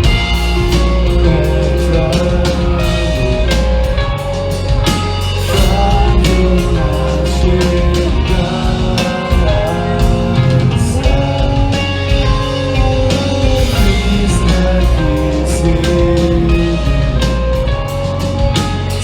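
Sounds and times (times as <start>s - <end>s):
cymbals crashing: 0.0s - 19.0s
punk band playing live: 0.0s - 19.0s.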